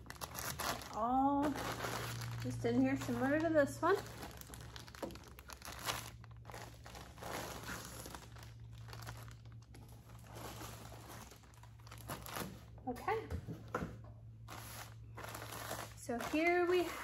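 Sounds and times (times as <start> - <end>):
packaging crinkling and rustling: 0.0 - 12.8, 14.4 - 17.0.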